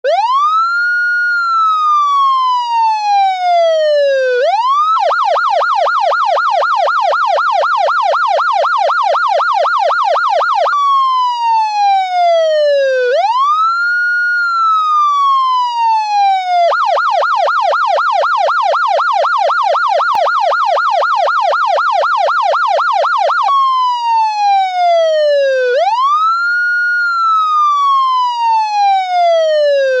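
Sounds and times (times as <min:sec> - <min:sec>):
police siren wail and yelp: 0:00.0 - 0:30.0.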